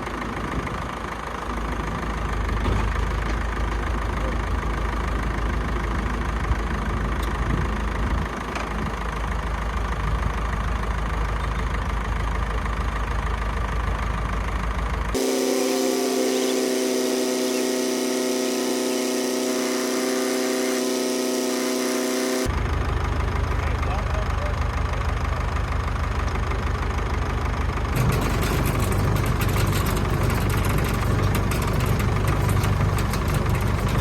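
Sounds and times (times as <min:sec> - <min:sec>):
tractor engine humming at higher speed: 0:00.0 - 0:34.0
tractor engine idling: 0:00.0 - 0:34.0.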